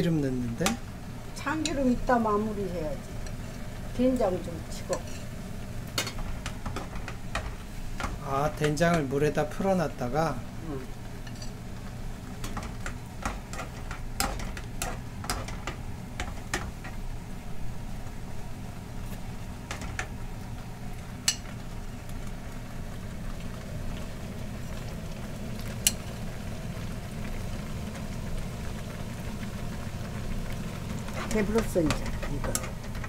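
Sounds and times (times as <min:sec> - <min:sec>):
wok simmering with bubbling: 0:00.0 - 0:33.0.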